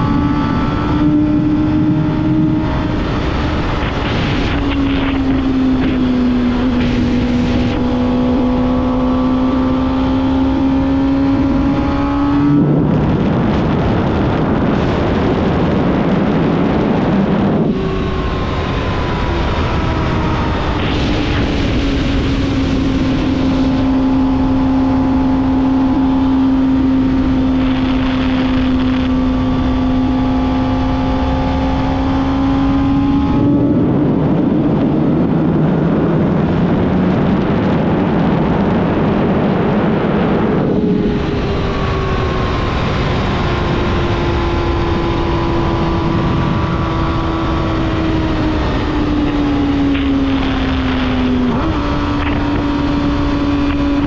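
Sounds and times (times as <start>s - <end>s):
motorcycle engine at high revs: 0.0s - 54.0s
wind rushing: 0.0s - 54.0s.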